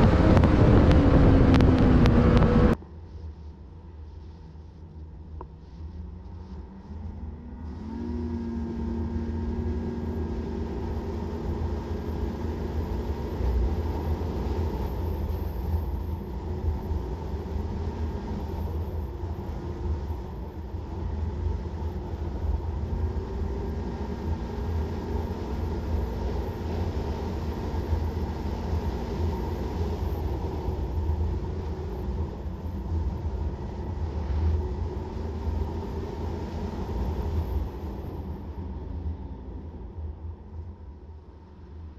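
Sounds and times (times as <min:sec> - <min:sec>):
snowmobile engine drone: 0:00.0 - 0:41.9.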